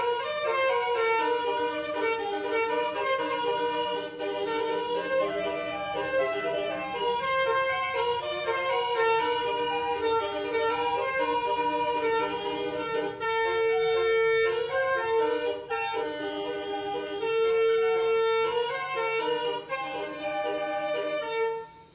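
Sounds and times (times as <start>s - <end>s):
bus musical horn melody: 0.0s - 21.9s.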